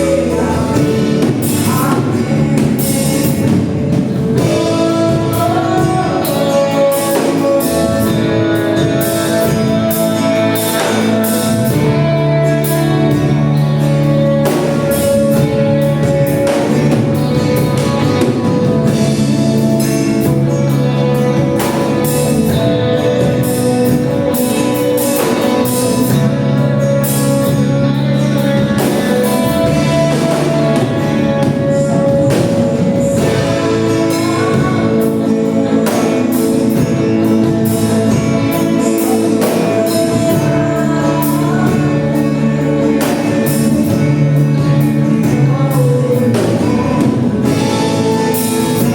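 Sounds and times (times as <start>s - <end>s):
band playing gospel song: 0.0s - 48.9s
people singing: 0.0s - 48.9s
steady drum beat: 0.0s - 48.9s.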